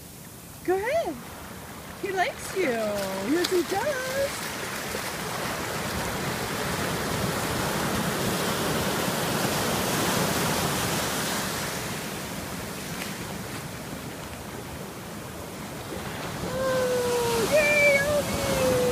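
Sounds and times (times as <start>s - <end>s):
ocean surf rushing: 1.2s - 18.9s.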